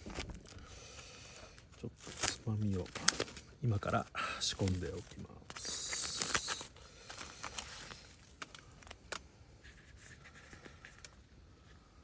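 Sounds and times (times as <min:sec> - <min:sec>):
rustling: 0:00.0 - 0:11.9.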